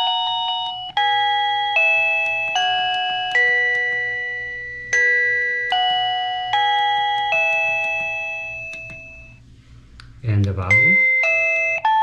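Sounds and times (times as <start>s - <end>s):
doorbell chime tune: 0.0s - 9.4s, 10.7s - 12.0s.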